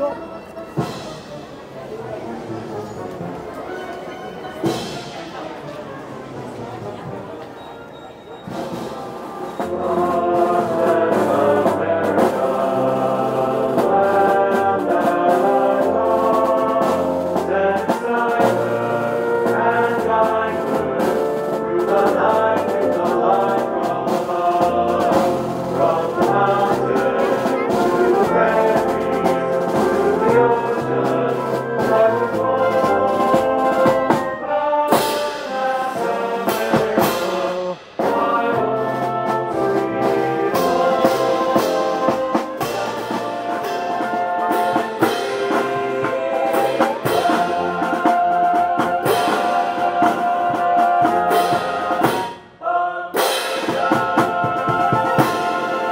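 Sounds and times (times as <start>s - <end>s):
brass marching band playing: 0.0s - 55.9s.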